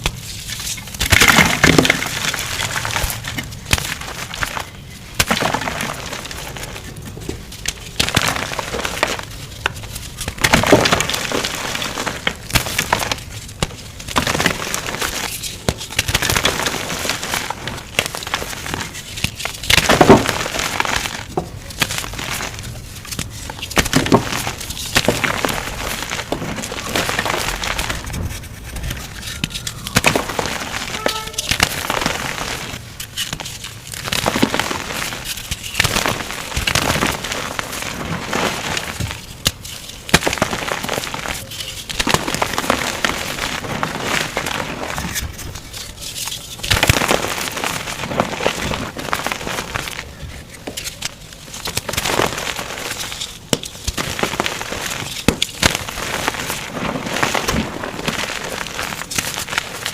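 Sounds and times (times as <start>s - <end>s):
chalk crunching and crackling: 0.0s - 59.9s.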